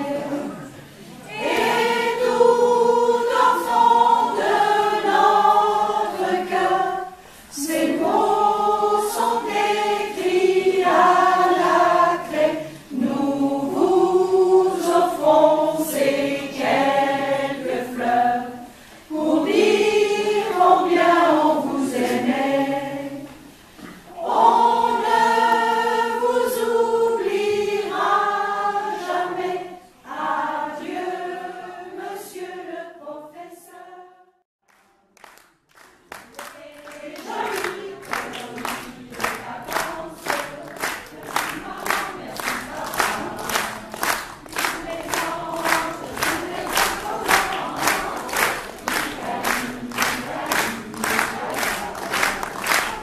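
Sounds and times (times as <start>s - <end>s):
mixed choir singing: 0.0s - 34.4s, 36.1s - 53.0s.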